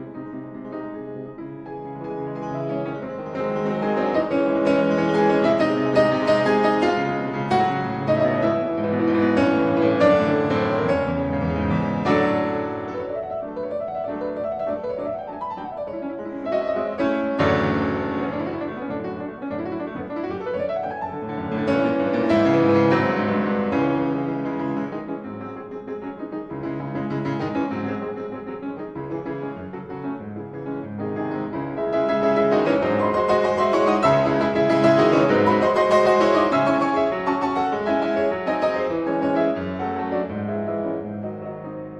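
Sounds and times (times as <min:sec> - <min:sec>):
solo piano arpeggios: 0:00.0 - 0:41.9.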